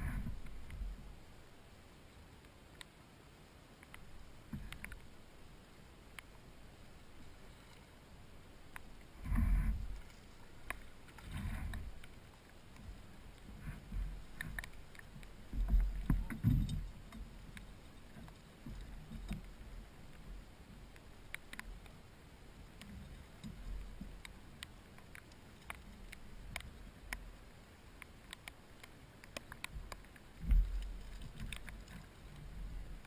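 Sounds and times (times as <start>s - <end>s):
rain ticking on plastic: 0.0s - 33.0s
steady rain hiss: 0.0s - 33.0s.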